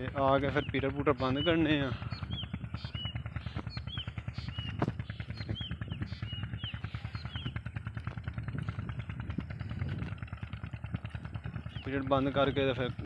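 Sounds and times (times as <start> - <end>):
birds chirping: 0.0 - 13.0
diesel pump engine running: 0.0 - 13.0.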